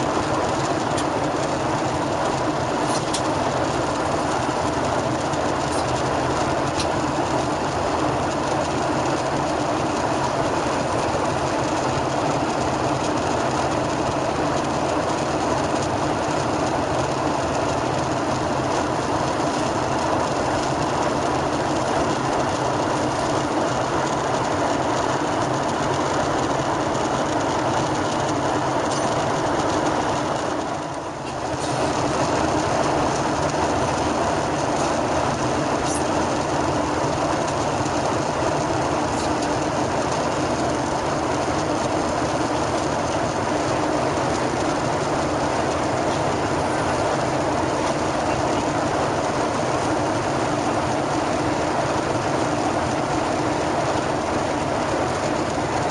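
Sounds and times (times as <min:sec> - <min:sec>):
airplane cabin airflow and engine: 0:00.0 - 0:55.9.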